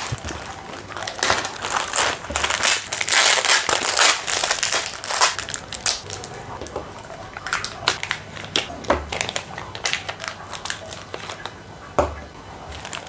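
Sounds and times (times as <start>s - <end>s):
packet tearing: 0.0s - 6.3s, 7.0s - 11.5s, 12.7s - 13.0s
plastic packaging crinkling: 0.0s - 11.6s, 12.6s - 13.0s.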